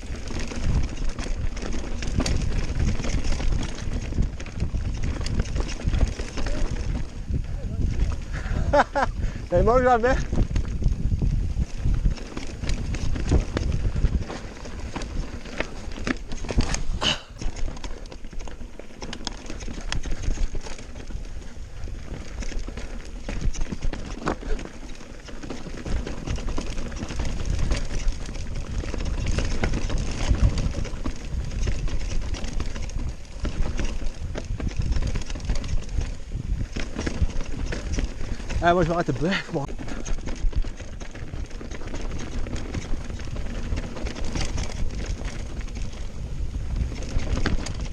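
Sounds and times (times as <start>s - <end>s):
bike frame and chain rattling: 0.0s - 47.9s
bike tyres clattering over rocks: 0.0s - 47.9s
wind rumble on microphone: 0.0s - 47.9s.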